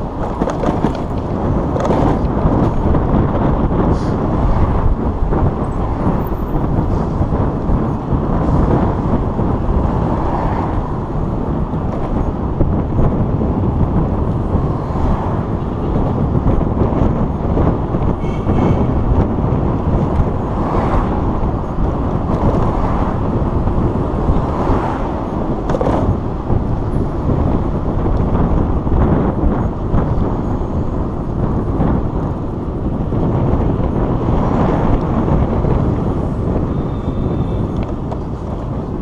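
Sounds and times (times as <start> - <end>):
street traffic rumble: 0.0 - 39.0.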